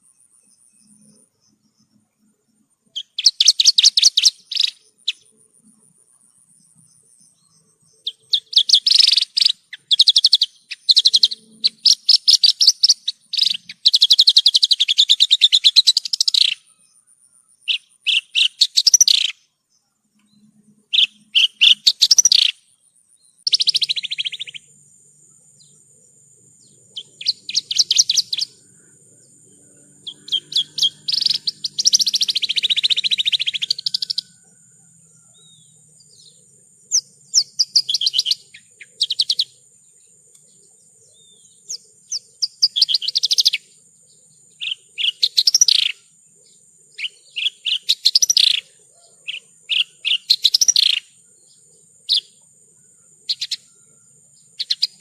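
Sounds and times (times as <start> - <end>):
bird trilling song: 0.0 - 55.0.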